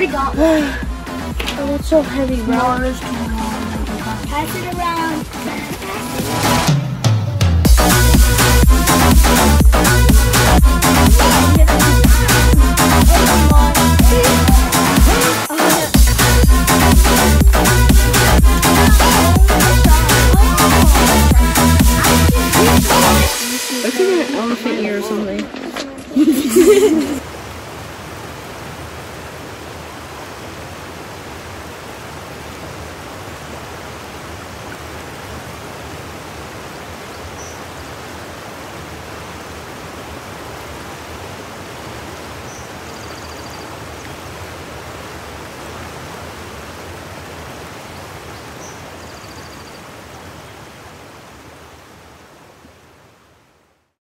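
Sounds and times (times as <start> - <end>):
water rushing: 0.0 - 53.7.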